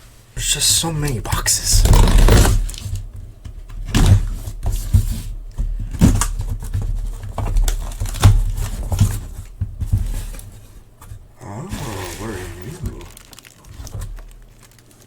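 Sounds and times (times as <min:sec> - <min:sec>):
cardboard tearing: 0:01.7 - 0:15.0
cardboard box knocks and scraping: 0:01.8 - 0:14.5.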